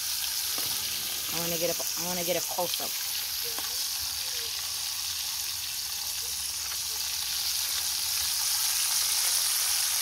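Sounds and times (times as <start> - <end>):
shrimp sizzling in hot oil: 0.0 - 10.0.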